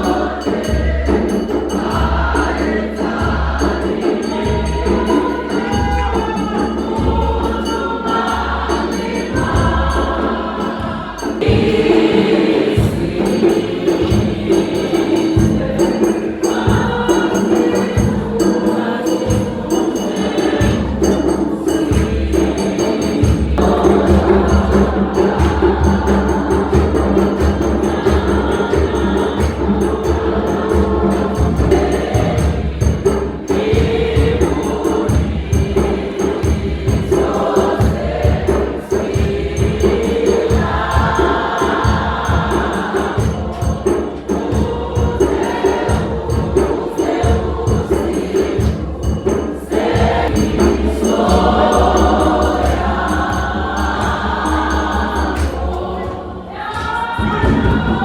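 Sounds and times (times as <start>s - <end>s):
choir singing gospel: 0.0s - 58.0s
steady beat: 10.8s - 58.0s.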